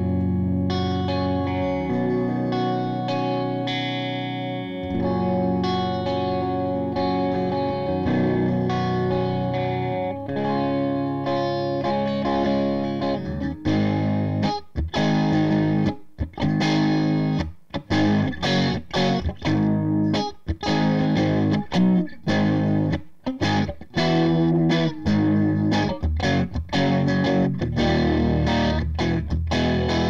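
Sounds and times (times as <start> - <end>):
distorted electric guitar riff: 0.0 - 30.0.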